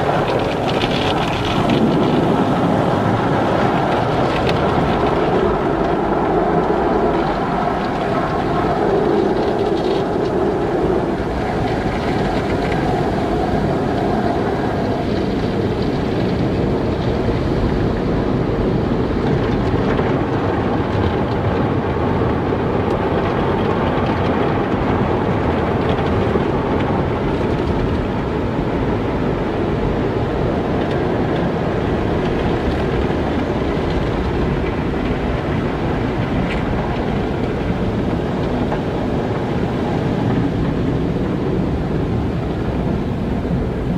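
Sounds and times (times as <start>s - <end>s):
car wash machinery rushing: 0.0s - 43.9s.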